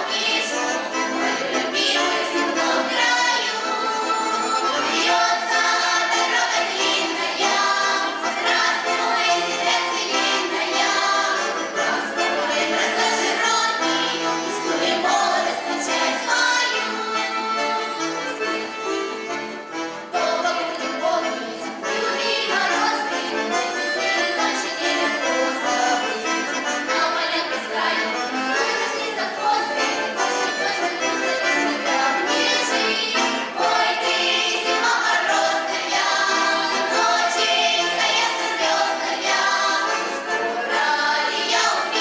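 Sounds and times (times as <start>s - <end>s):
children singing: 0.0s - 19.4s, 20.1s - 42.0s
instrumental accompaniment: 0.0s - 42.0s.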